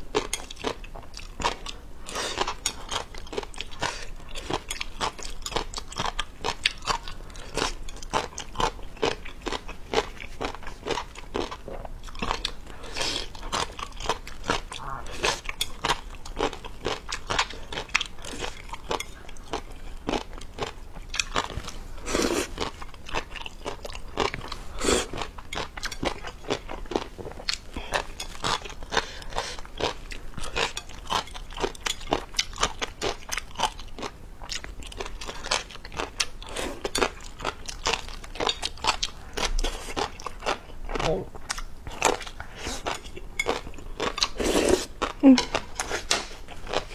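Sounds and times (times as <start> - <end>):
person chewing and crunching: 0.0 - 46.9.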